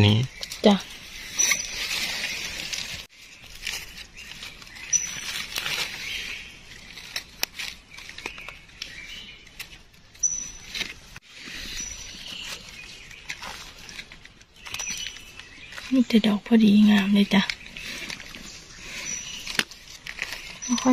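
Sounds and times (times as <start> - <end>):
dry leaves crackling and rustling: 0.3 - 20.9.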